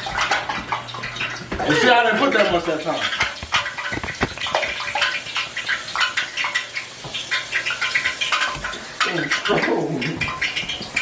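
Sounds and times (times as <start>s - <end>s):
oil sizzling and popping: 0.0s - 11.0s.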